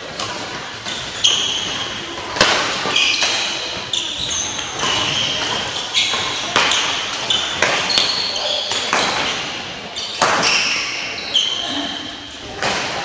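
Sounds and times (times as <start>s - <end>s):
racket hitting shuttlecock: 0.1s - 9.5s, 10.2s - 11.0s, 12.6s - 13.0s
shoes squeaking on floor: 0.8s - 12.5s.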